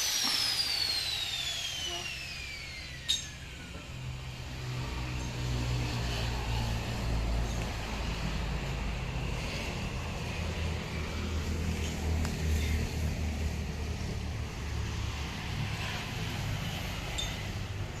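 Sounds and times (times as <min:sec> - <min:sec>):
engine rumbling steadily: 0:00.0 - 0:18.0.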